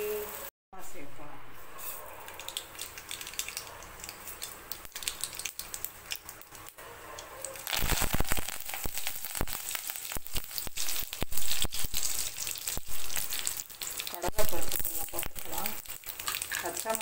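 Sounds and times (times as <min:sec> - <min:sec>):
leaves crackling in hot oil: 0:01.8 - 0:06.8, 0:07.4 - 0:17.0
hot oil ticking and popping: 0:02.2 - 0:17.0.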